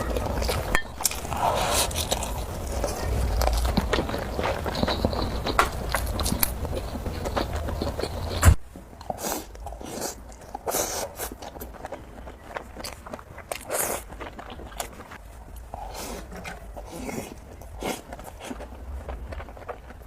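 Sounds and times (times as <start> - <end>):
person biting and chewing noodles: 0.0 - 20.0.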